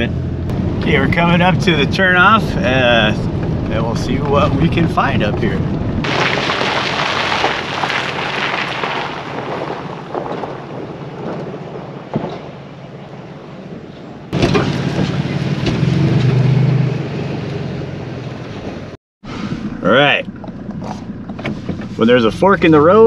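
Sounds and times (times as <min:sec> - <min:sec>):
low engine hum: 0:00.0 - 0:23.0
road noise inside truck cab: 0:00.0 - 0:23.0.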